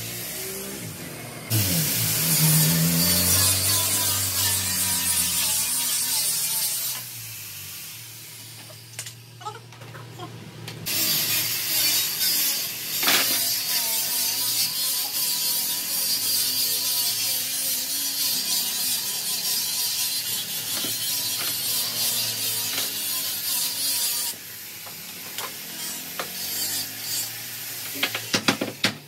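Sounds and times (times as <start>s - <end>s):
power tool hissing: 0.0s - 9.3s, 10.9s - 28.8s.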